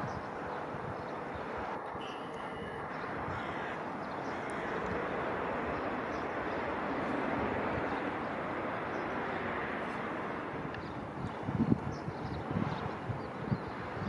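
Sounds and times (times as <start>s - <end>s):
distant jet engines roaring: 0.0s - 14.0s.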